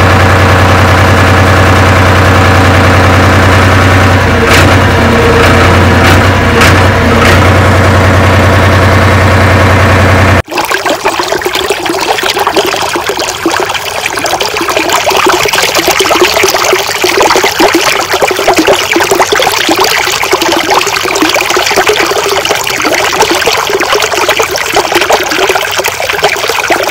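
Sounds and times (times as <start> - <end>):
water pouring into a tank: 0.0 - 9.7, 10.4 - 26.9.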